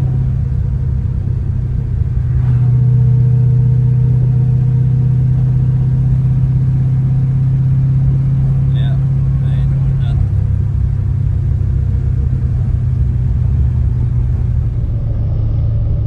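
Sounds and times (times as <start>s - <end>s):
car engine drone inside cabin: 0.0s - 16.0s.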